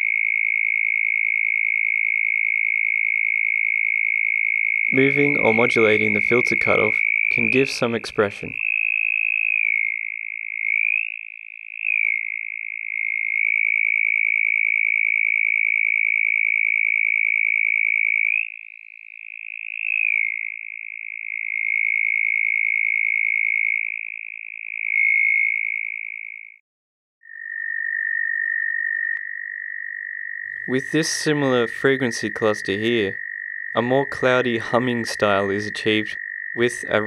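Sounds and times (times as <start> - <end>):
lower synthesized cricket hum: 0.0 - 26.4, 27.3 - 37.0
synthesized cricket buzzing hum: 0.0 - 26.4, 27.3 - 37.0.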